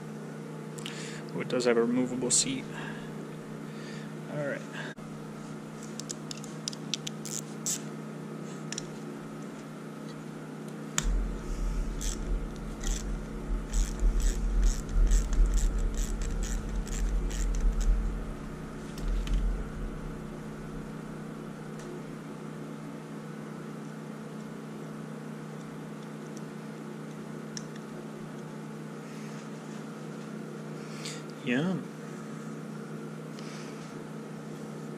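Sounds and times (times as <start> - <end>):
steady electrical hum: 0.0 - 34.9.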